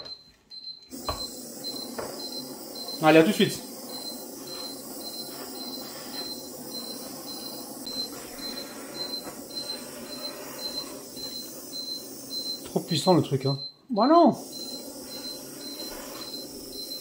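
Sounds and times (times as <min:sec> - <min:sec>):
timer alarm beeping: 0:00.0 - 0:17.0
blowtorch hissing: 0:00.9 - 0:13.6, 0:14.2 - 0:17.0.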